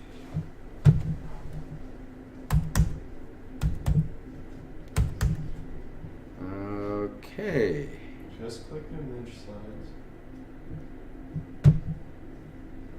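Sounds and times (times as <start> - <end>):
low room hum: 0.0 - 12.9.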